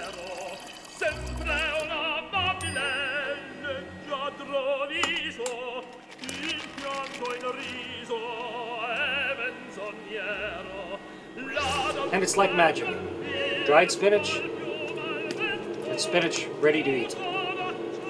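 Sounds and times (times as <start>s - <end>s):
operatic voice singing: 0.0s - 18.0s.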